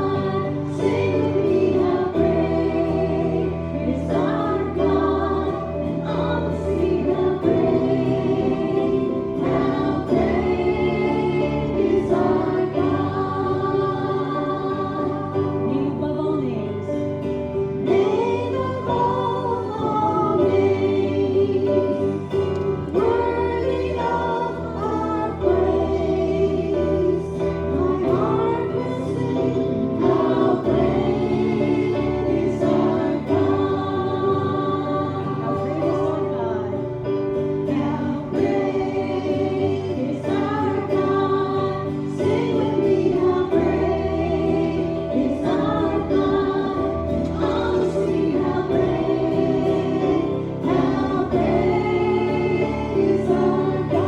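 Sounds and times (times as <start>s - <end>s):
choir singing a hymn: 0.0s - 54.0s
sustained accompaniment: 0.0s - 54.0s.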